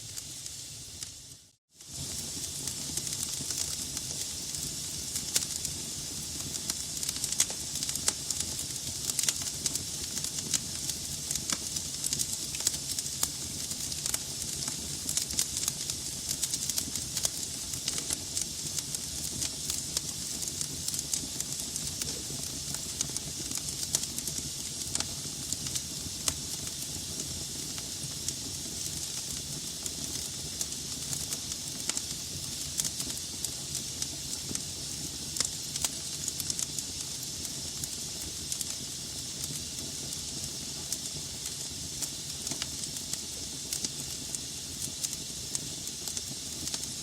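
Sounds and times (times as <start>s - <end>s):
fire popping and crackling: 0.0s - 47.0s
logs burning in fireplace: 0.0s - 47.0s.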